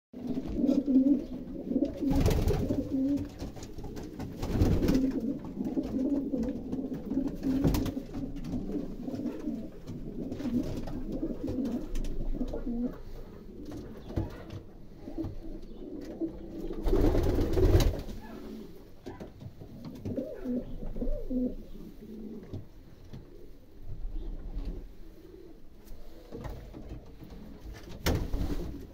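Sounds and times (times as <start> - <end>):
pigeons cooing: 0.2 - 28.9.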